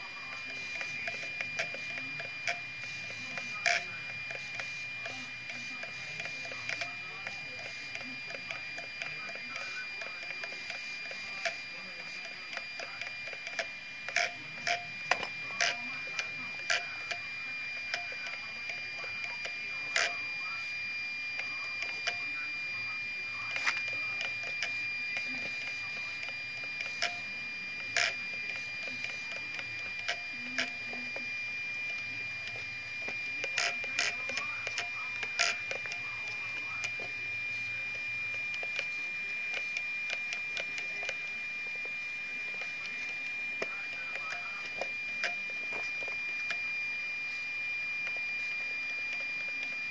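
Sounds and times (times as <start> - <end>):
servo high whine: 0.0 - 49.9.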